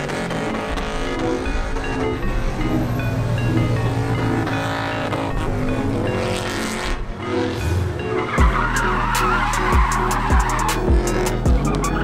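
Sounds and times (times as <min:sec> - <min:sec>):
background music: 0:00.0 - 0:12.0
car engine revving: 0:00.0 - 0:12.0
tire screech: 0:00.0 - 0:12.0
tires spinning: 0:00.0 - 0:12.0.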